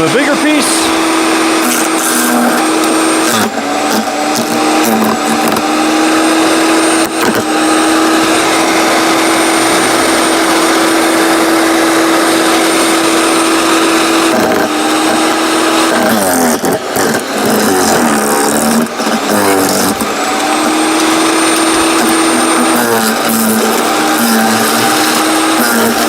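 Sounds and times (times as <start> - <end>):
knocking and grinding: 0.0 - 26.0
wood chipper motor humming: 0.0 - 26.0.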